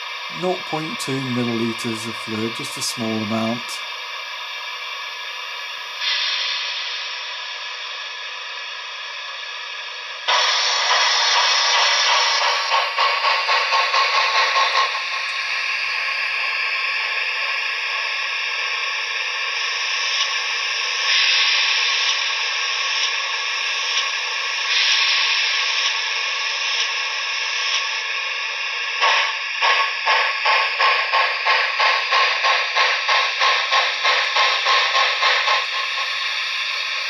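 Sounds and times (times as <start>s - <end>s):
steam hissing: 0.0s - 37.0s
steam locomotive exhaust chuffs: 0.0s - 37.0s.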